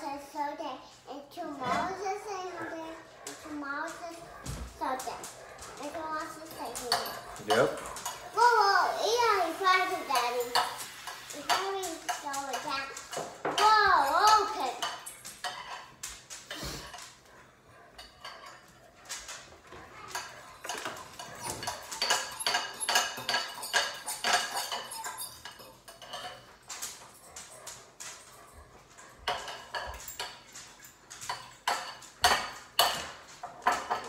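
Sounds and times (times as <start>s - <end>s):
utensil clinking against a bowl: 1.7s - 34.0s.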